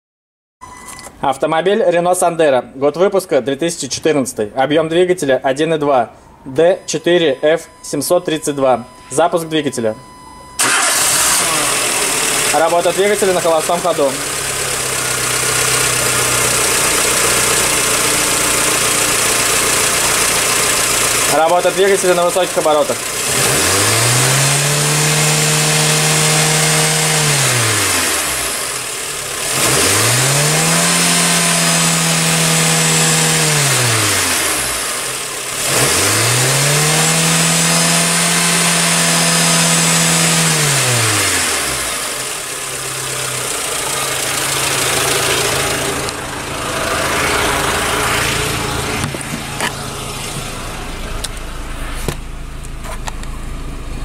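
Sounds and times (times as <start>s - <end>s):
car engine revving and idling: 10.0s - 54.0s.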